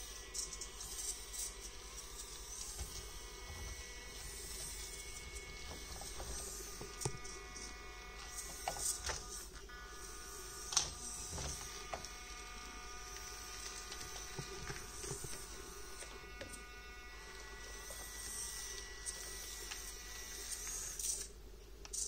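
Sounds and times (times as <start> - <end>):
small geared motor whining: 0.0 - 21.4.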